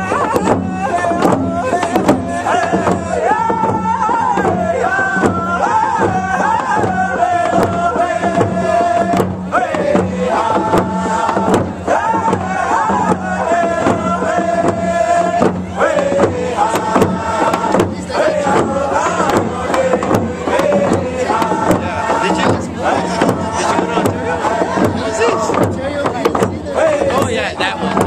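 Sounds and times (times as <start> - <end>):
group of voices singing: 0.0 - 28.0
steady drum beat: 0.0 - 28.0.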